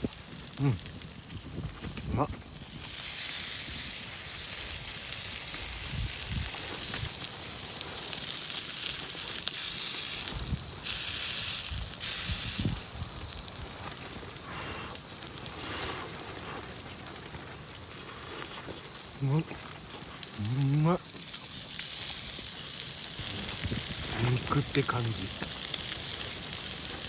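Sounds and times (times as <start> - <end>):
meat sizzling over campfire: 0.0 - 27.0.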